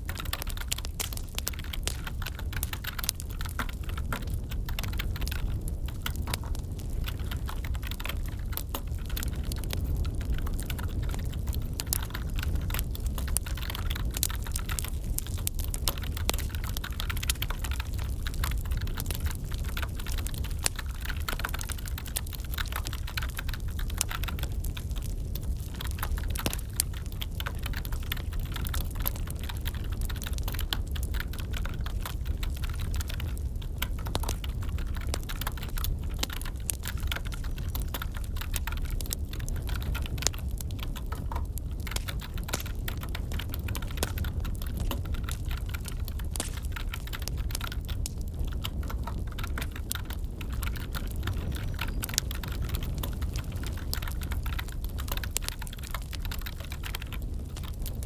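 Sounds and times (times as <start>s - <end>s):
computer keyboard typing: 0.0s - 58.0s
crackling wood fire: 0.0s - 58.0s.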